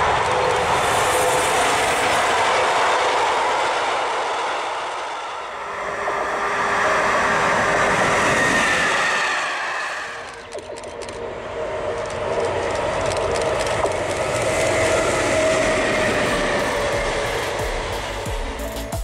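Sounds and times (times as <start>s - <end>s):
electric locomotive hum: 0.0s - 19.0s
trains rumbling on rails: 0.0s - 19.0s.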